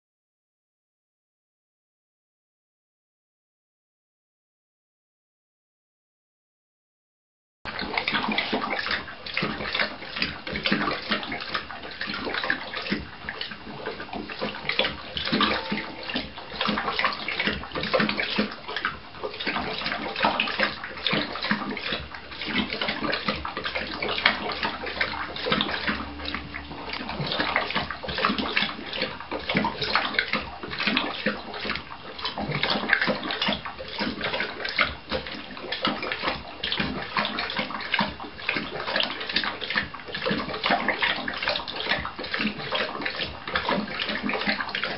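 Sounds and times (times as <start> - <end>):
dog lapping water from metal bowl: 7.7 - 44.9.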